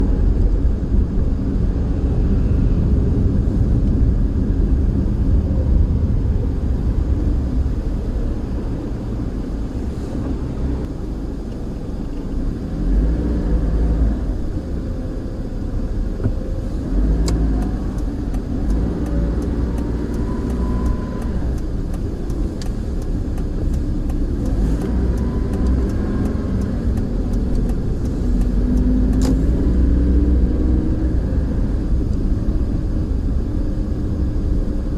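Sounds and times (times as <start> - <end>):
car engine running: 0.0 - 34.9
road and tyre rumble: 0.0 - 34.9.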